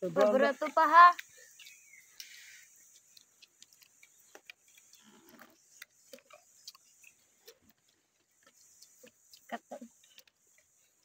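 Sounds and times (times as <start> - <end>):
small clicks of people eating: 0.0 - 11.0.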